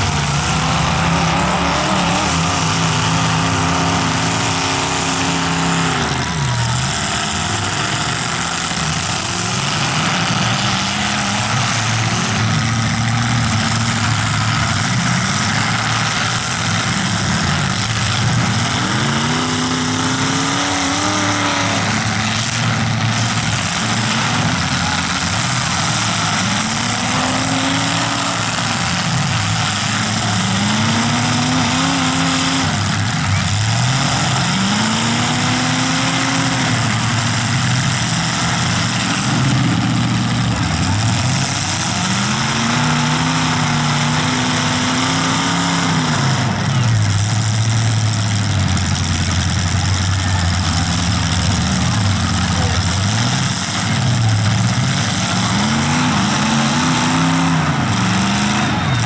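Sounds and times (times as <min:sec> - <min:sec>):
car engines revving: 0:00.0 - 0:59.0
cars crashing: 0:00.0 - 0:59.0.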